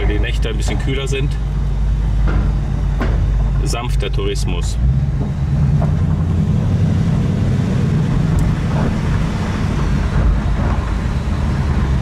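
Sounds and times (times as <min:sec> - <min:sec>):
car engine deep drone: 0:00.0 - 0:12.0.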